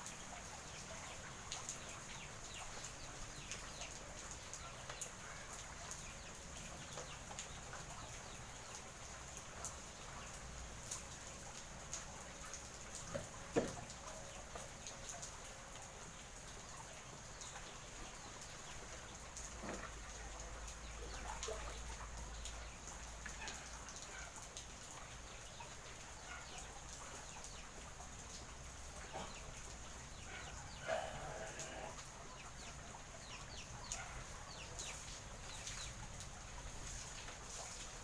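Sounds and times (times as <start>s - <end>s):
light rain hiss: 0.0s - 38.0s
water drips: 0.0s - 38.0s.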